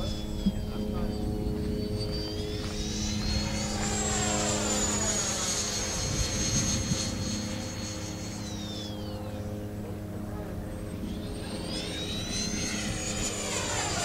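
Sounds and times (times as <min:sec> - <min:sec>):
electric ducted fan whining: 0:00.0 - 0:14.0
steady low hum: 0:00.0 - 0:14.0.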